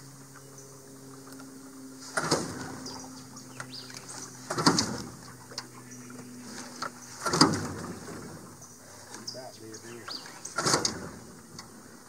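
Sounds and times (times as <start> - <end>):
birds chirping: 0.0 - 12.0
engine turning over: 1.0 - 9.4, 10.0 - 12.0
outboard motor starter cord pulls: 1.2 - 9.4, 10.0 - 12.0.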